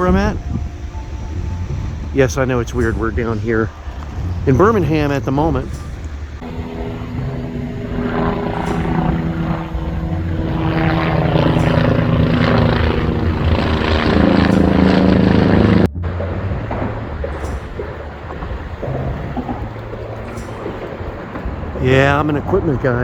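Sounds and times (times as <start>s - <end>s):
diesel locomotive engine running: 0.0s - 23.0s.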